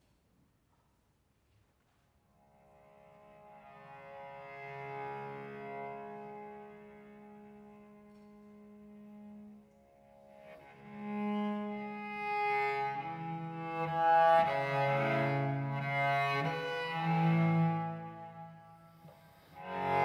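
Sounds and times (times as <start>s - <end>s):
cello playing slow melody: 2.4s - 20.0s.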